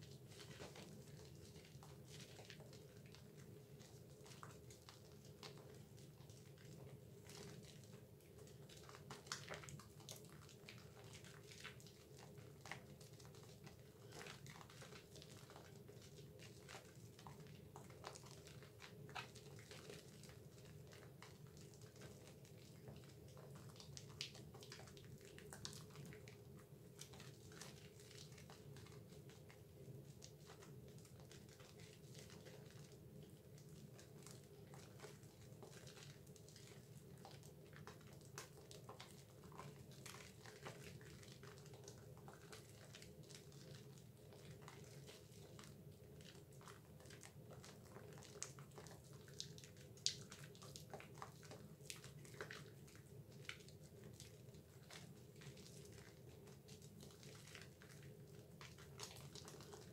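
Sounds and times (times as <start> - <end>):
foam bubbles popping: 0.0 - 59.9
soap lather squelching between hands: 0.1 - 59.9.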